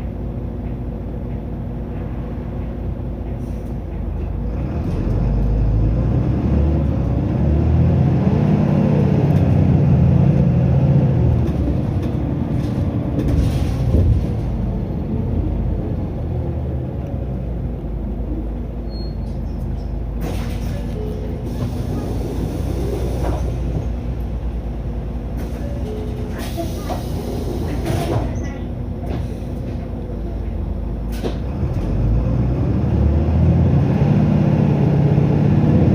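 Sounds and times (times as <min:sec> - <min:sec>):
bus diesel engine running: 0:00.0 - 0:35.9.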